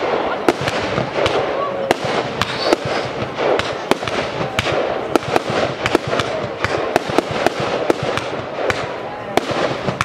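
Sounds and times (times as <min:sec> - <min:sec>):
continuous background noise: 0:00.0 - 0:10.0
fireworks bangs: 0:00.0 - 0:10.0.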